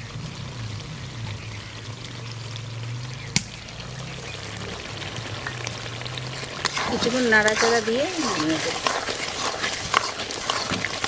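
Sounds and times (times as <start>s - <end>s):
curry bubbling and simmering: 0.0s - 11.0s
wet trickling: 1.4s - 11.0s.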